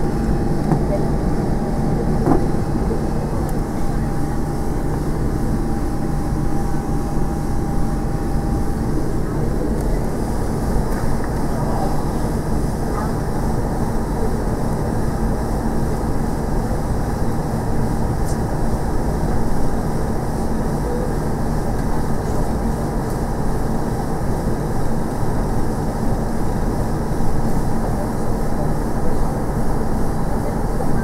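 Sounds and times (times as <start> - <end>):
constant low hum: 0.0 - 31.0
engine and wheel rumble: 0.0 - 31.0.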